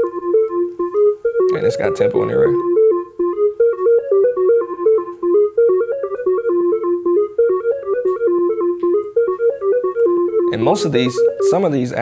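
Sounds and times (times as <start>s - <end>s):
looping electronic keyboard notes: 0.0s - 12.0s.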